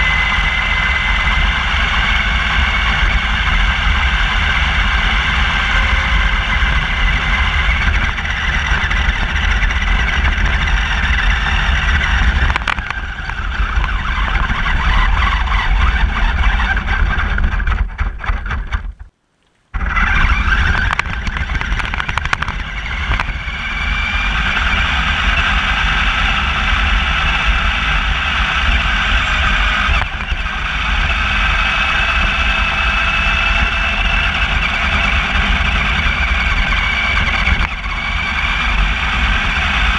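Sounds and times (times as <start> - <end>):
electric motor and gear whine: 0.0 - 17.8, 19.8 - 39.9
tyre and chassis rumble: 0.0 - 39.9.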